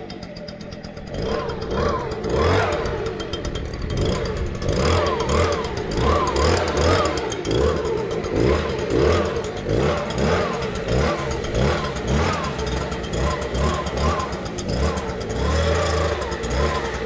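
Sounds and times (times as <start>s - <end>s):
leaf blower running: 0.0s - 17.0s.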